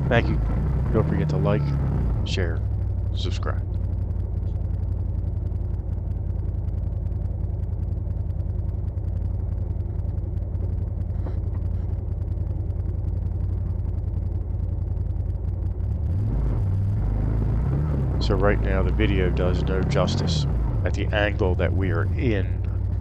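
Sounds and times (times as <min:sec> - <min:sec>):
utility vehicle engine rumble: 0:00.0 - 0:23.0.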